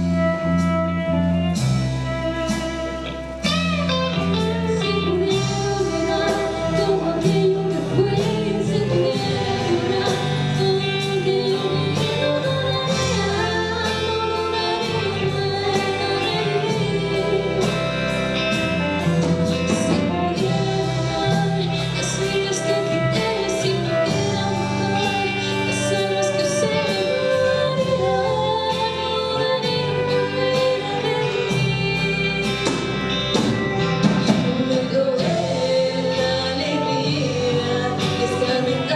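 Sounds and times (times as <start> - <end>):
electric guitar: 0.0 - 38.9
live band playing: 0.0 - 38.9
person singing: 0.0 - 38.9.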